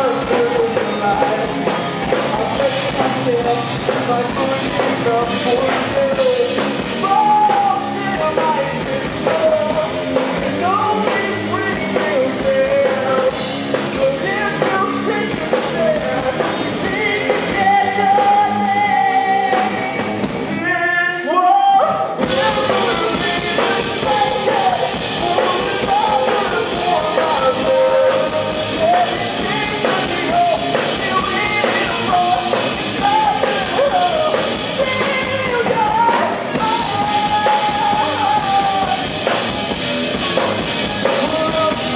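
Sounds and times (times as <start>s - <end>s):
person singing: 0.0s - 41.9s
rock band playing live: 0.0s - 41.9s.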